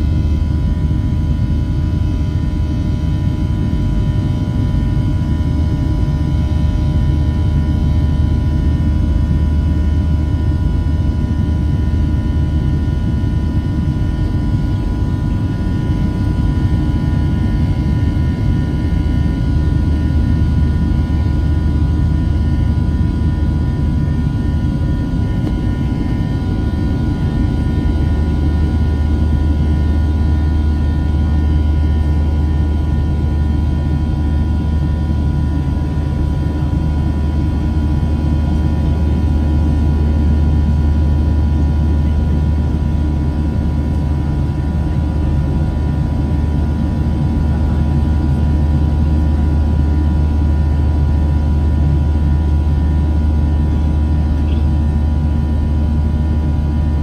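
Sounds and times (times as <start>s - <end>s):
faint engine whine: 0.0s - 57.0s
jet engine rumble in cabin: 0.0s - 57.0s.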